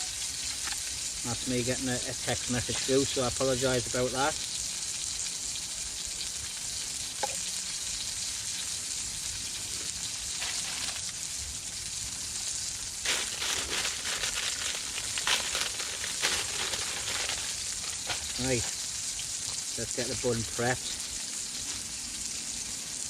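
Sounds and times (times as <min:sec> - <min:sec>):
burger sizzling in a pan: 0:00.0 - 0:23.0.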